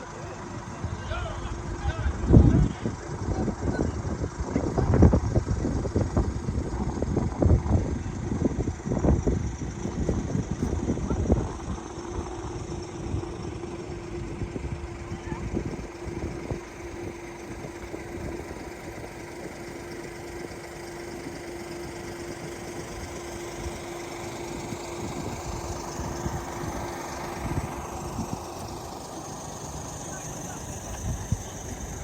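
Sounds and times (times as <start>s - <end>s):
constant low hum: 0.0s - 32.0s
vehicle engine and road noise: 0.0s - 32.0s.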